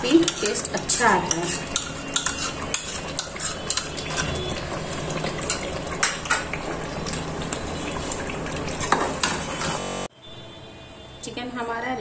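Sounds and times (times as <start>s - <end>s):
curry bubbling in a pot: 0.0s - 9.8s.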